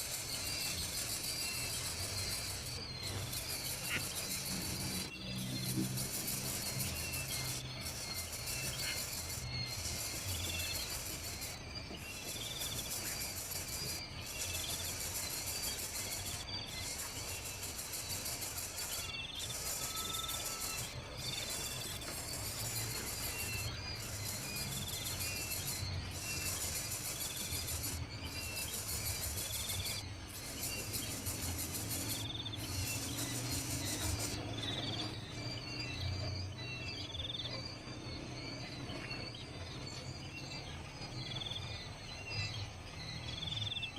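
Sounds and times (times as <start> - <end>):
birds chirping: 0.0 - 43.9
insect chorus buzzing: 0.0 - 43.9.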